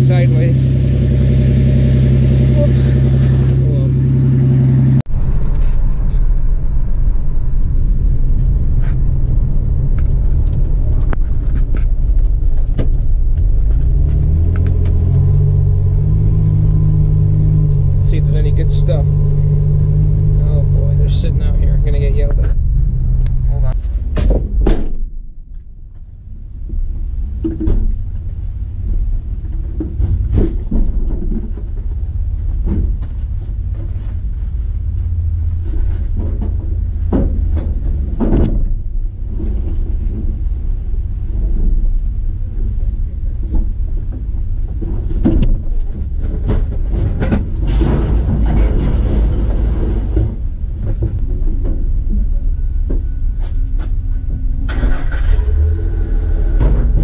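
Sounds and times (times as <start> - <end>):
steady low rumble: 0.0 - 57.0
junk knocking and clunking: 8.3 - 55.6, 56.4 - 57.0.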